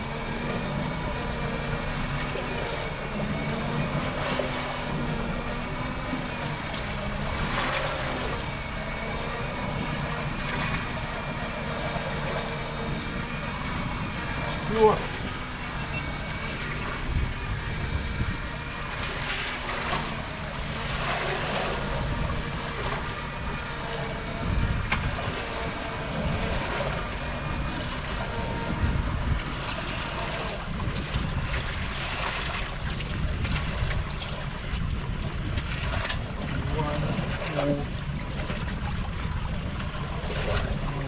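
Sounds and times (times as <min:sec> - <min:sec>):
steady low rumble: 0:00.0 - 0:41.0
waves slapping against boat hull: 0:00.0 - 0:41.0
wind buffeting microphone: 0:00.0 - 0:41.0.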